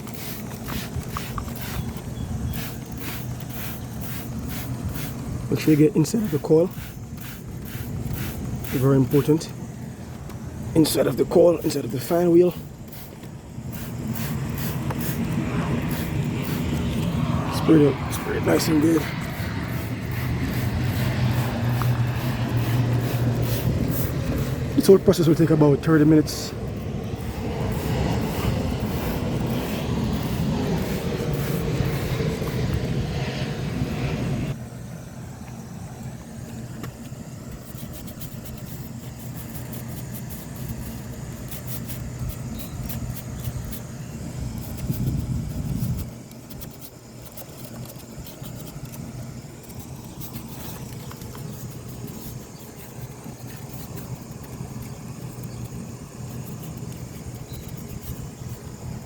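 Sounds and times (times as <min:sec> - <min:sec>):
garden hose spraying water: 0:00.0 - 0:33.6, 0:34.5 - 0:59.0
steady low hum: 0:00.0 - 0:59.0.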